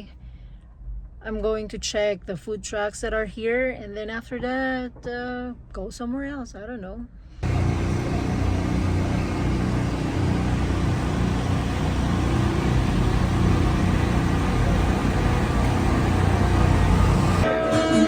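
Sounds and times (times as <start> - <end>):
faint hum: 0.0 - 17.5
low mechanical rumble: 0.0 - 17.5.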